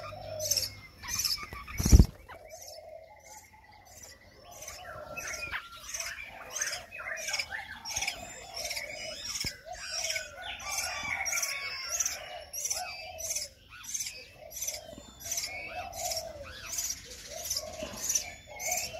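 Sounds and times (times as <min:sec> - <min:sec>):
bird chicks chirping: 0:00.0 - 0:18.9.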